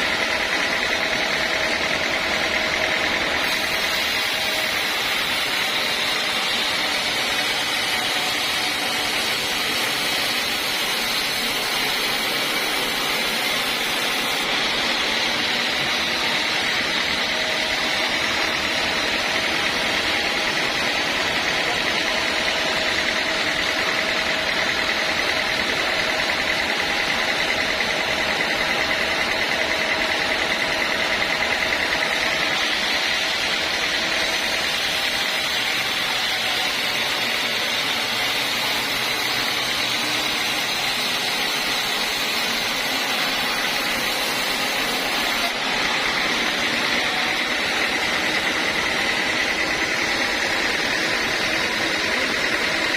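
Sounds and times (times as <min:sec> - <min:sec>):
sawmill saw whining: 0:00.0 - 0:52.9.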